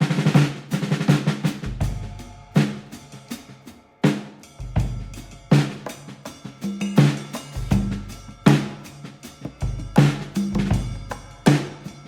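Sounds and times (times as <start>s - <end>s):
drum kit beat: 0.0s - 12.0s.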